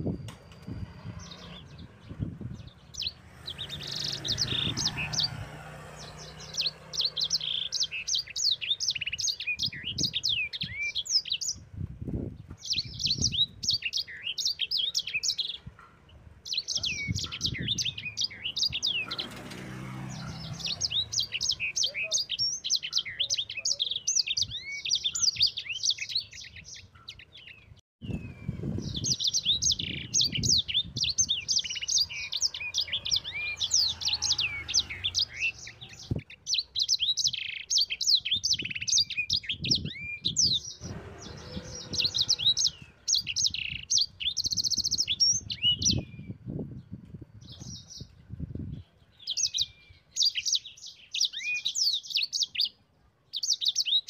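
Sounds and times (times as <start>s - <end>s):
finch singing chirps and trills: 0.0s - 54.0s.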